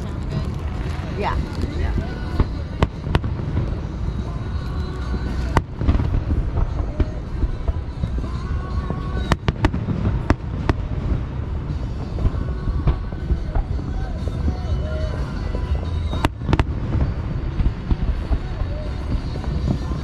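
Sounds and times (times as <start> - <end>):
sharp firework cracks: 0.0 - 14.6, 15.2 - 20.0
fireworks shell bursts rumbling: 0.0 - 20.0.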